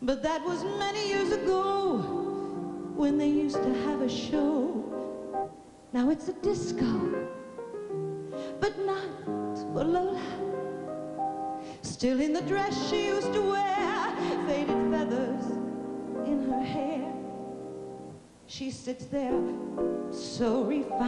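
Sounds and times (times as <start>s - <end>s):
woman singing with vibrato: 0.0s - 5.2s, 5.9s - 7.3s, 8.5s - 10.8s, 11.7s - 17.7s, 18.5s - 21.0s.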